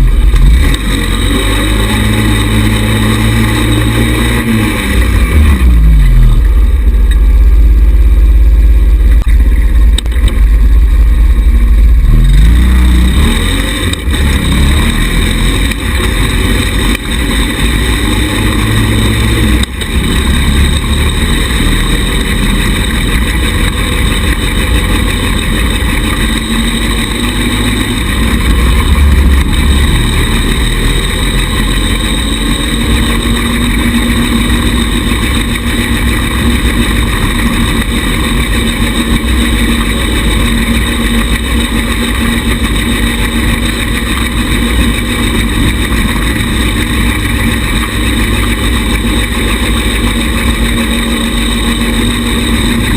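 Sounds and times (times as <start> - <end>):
buggy engine revving: 0.0 - 52.9
heavy low rumble: 0.0 - 52.9.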